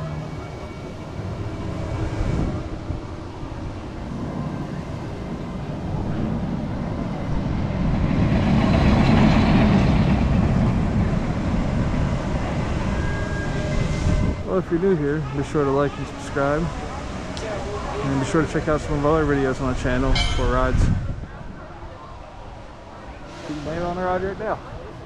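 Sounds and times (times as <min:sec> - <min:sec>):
storm wind buffeting microphone: 0:00.0 - 0:25.0.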